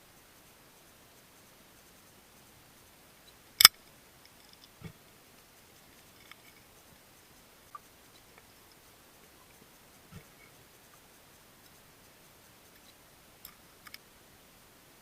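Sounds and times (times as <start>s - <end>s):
faint ticks: 0.0s - 14.2s.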